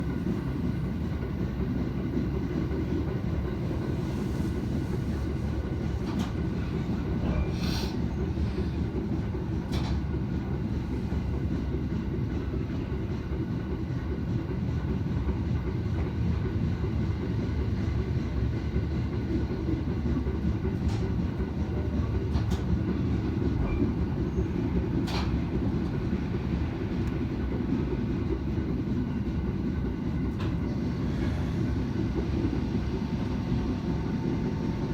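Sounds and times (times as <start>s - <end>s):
train rumbling slowly: 0.0s - 34.9s.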